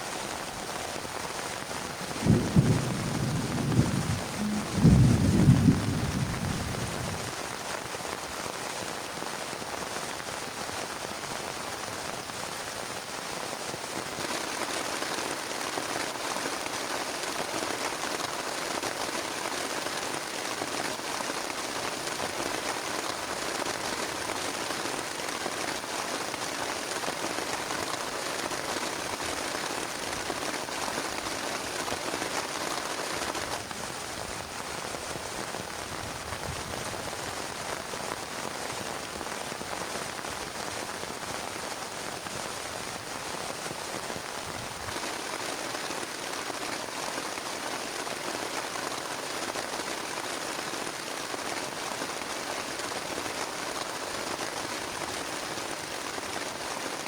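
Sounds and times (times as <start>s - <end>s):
heavy rain on a plastic tarp: 0.0s - 57.0s.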